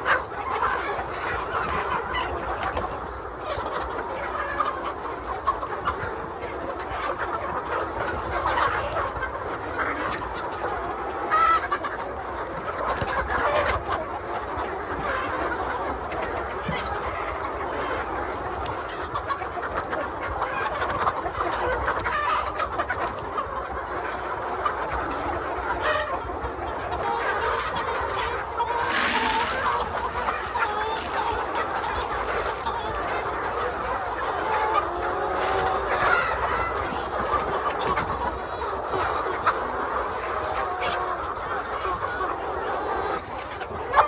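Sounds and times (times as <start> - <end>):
hens clucking: 0.0 - 44.0.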